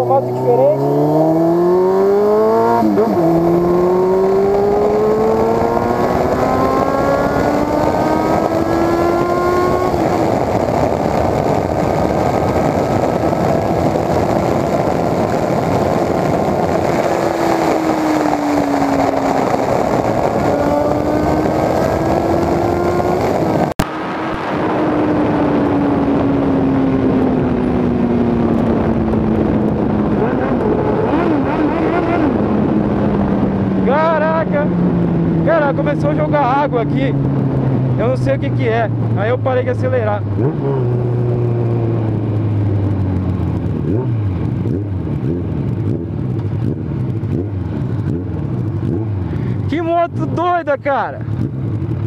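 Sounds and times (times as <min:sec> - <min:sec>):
motorcycle engine at speed: 0:00.0 - 0:52.0
wind rush on microphone: 0:00.0 - 0:52.0.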